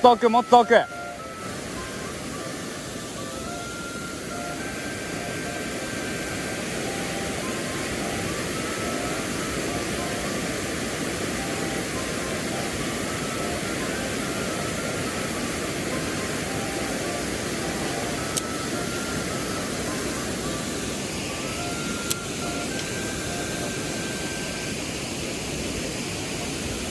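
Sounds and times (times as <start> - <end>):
fast-flowing stream water: 0.0 - 26.9.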